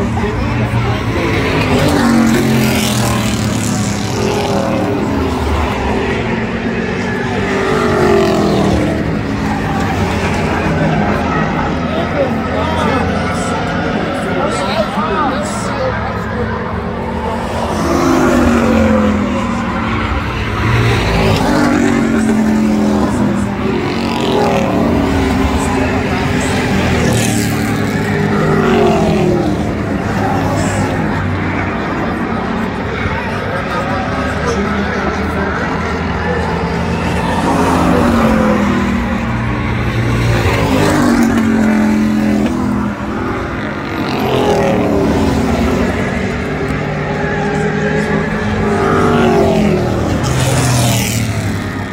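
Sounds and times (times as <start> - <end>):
race truck engines passing: 0.0 - 51.9.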